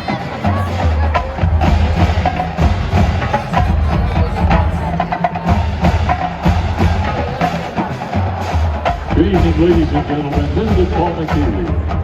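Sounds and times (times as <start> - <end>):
marching drumline: 0.0 - 12.0.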